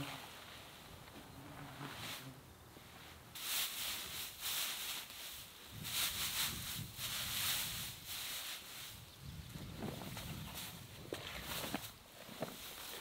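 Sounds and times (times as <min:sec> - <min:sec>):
dry grass rustling by hand: 0:00.0 - 0:13.0.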